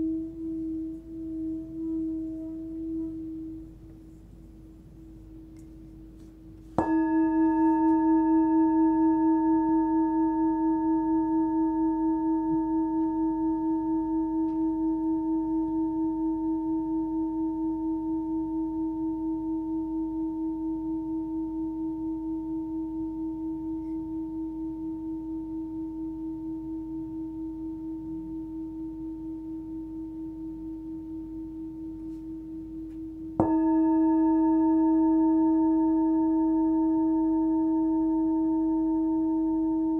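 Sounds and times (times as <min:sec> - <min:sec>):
singing bowl struck with mallet: 0:00.0 - 0:04.0, 0:06.8 - 0:39.9.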